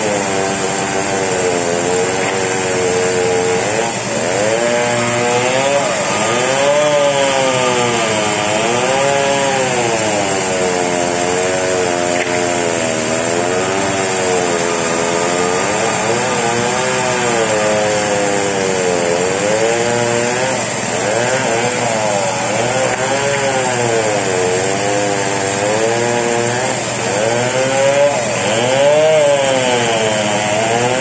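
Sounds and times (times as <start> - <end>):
chainsaw cutting log: 0.0 - 31.0.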